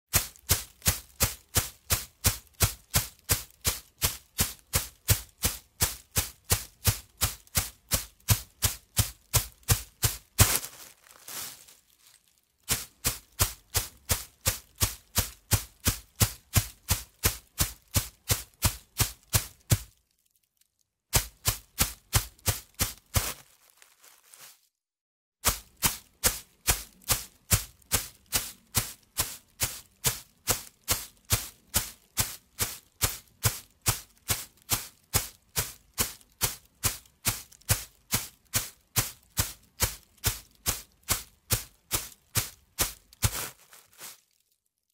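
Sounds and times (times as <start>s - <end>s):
running footsteps on gravel: 0.1s - 12.1s, 12.7s - 20.0s, 21.2s - 24.6s, 25.4s - 44.3s.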